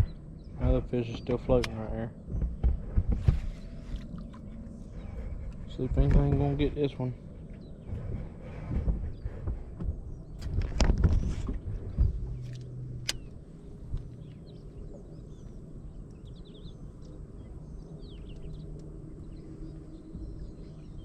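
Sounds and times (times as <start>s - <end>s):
birds chirping: 0.0s - 21.0s
low hum: 0.0s - 21.0s.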